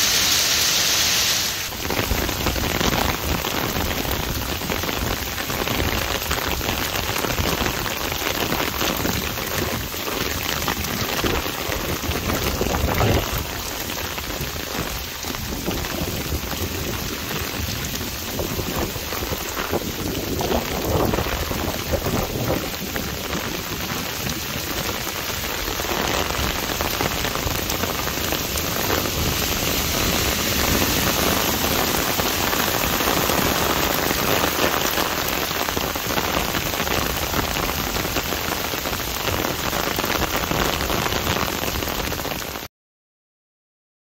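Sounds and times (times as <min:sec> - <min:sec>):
heavy rain pouring: 0:00.0 - 0:42.7.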